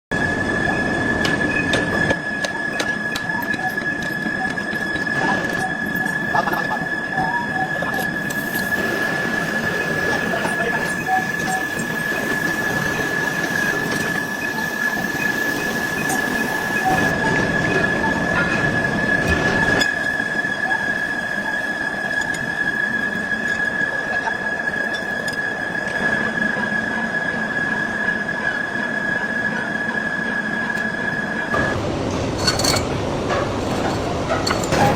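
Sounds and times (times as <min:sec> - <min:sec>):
lathe high-pitched squeal: 0:00.1 - 0:31.9.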